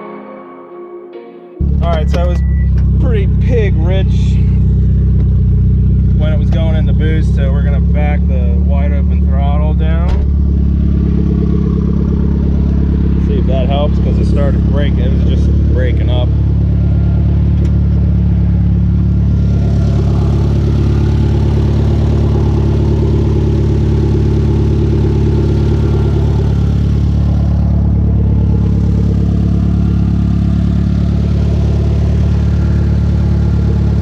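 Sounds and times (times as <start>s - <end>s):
car engine running steadily: 1.6s - 34.0s.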